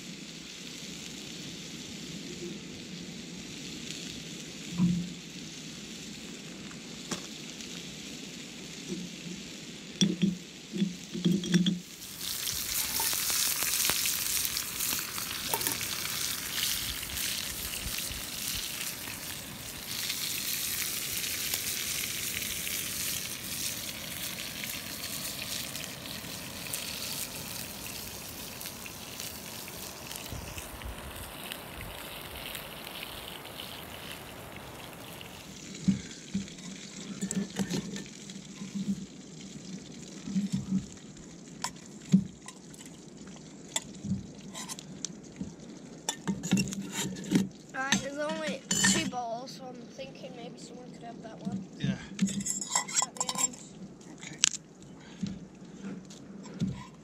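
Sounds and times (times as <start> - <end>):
fire crackling and popping: 0.0 - 57.0
meat sizzling over wood fire: 0.0 - 57.0.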